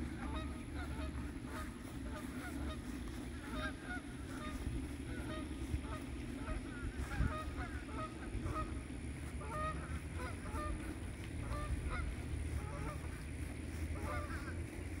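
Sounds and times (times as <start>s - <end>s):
ducklings peeping: 0.0s - 15.0s
low background rumble: 0.0s - 15.0s.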